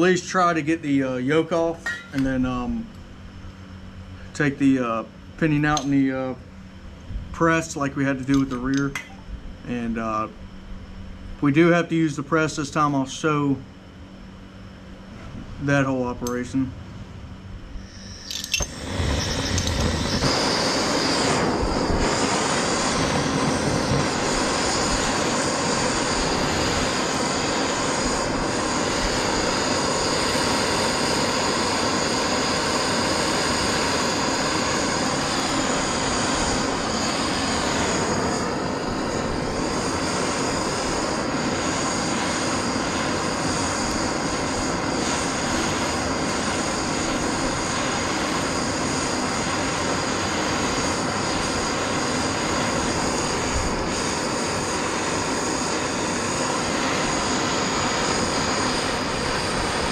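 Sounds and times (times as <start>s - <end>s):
steady mechanical drone: 0.0s - 59.9s.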